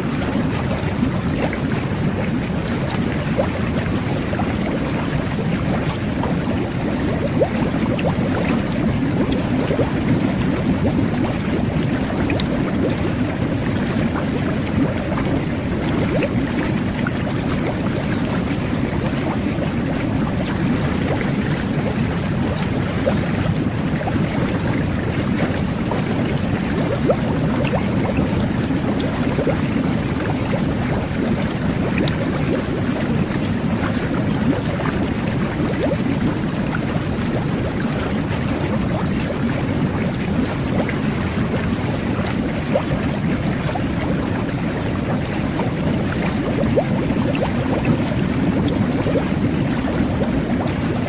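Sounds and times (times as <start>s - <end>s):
small bubble pops: 0.0s - 51.0s
water jets bubbling in bath: 0.0s - 51.0s.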